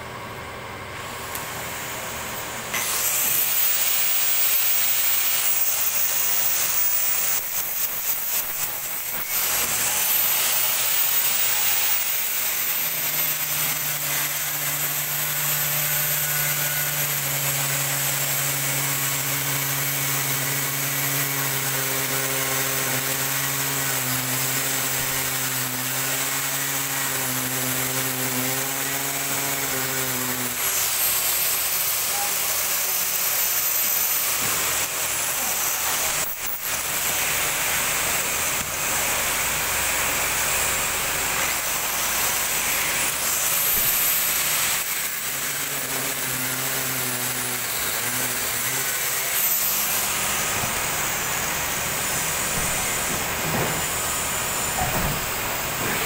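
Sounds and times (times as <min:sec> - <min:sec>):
angle grinder whining: 0:00.8 - 0:56.0.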